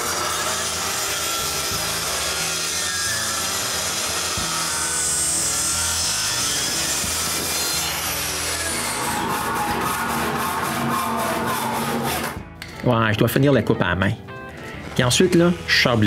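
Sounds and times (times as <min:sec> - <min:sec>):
circular saw cutting wood: 0:00.0 - 0:12.4, 0:14.8 - 0:16.0.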